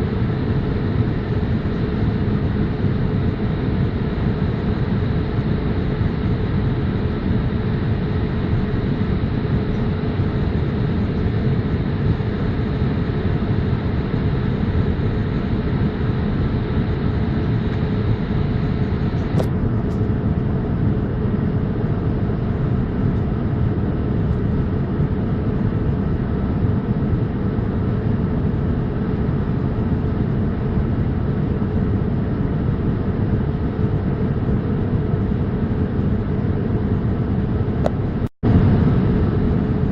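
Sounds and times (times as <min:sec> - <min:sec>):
airliner cabin rumble: 0:00.0 - 0:39.9
constant hum: 0:00.0 - 0:39.9.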